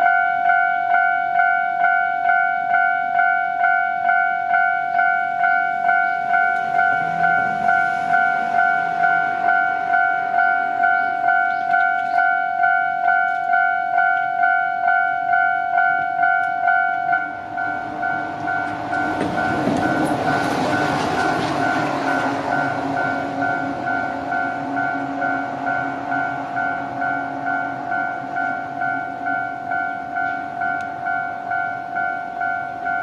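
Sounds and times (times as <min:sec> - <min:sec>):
electric train passing: 0:00.0 - 0:33.0
level crossing bell ringing: 0:00.0 - 0:33.0.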